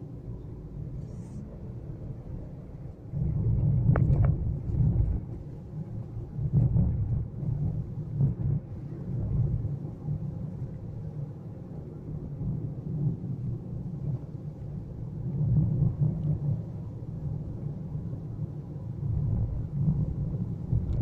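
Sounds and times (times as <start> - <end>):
car driving rumble from inside: 0.0 - 21.0.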